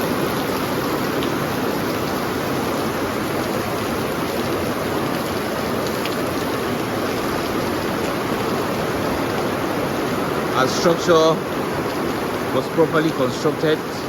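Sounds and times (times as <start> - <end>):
heavy rain on paper roof: 0.0 - 14.0.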